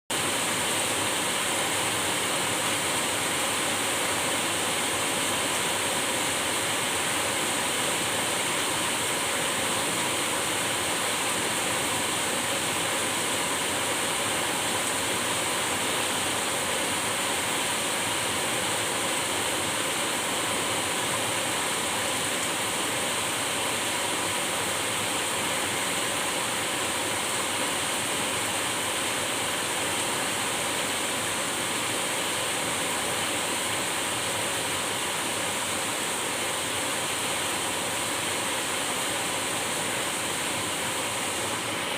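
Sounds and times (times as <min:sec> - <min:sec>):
steady rainfall: 0:00.1 - 0:41.9.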